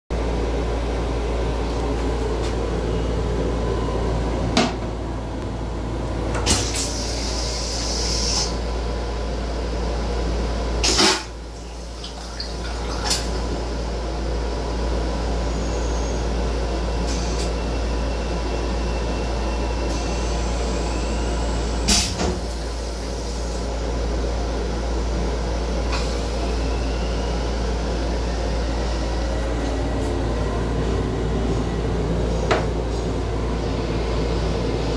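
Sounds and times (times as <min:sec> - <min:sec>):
electric railcar rumbling: 0:00.2 - 0:11.9, 0:13.4 - 0:34.9.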